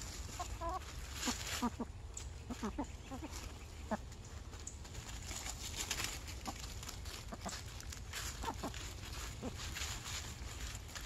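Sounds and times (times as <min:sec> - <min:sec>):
dry leaves crackling and rustling: 0:00.0 - 0:11.0
hens clucking: 0:00.0 - 0:11.0.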